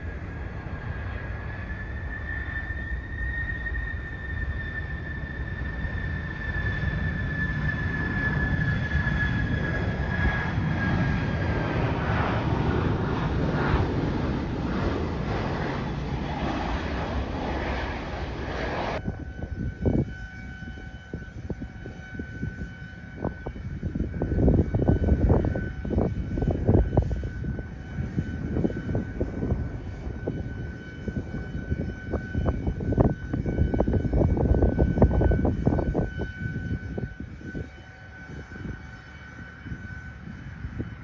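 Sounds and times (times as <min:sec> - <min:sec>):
jet engine whine: 0:00.0 - 0:41.0
wind buffeting microphone: 0:00.0 - 0:41.0.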